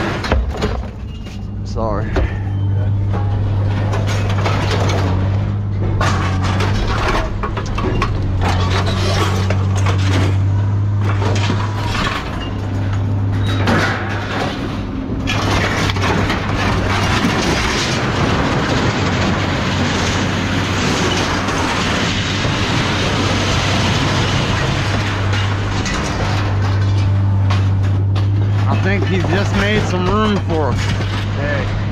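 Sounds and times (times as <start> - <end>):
scrap steel clanking: 0.0 - 31.9.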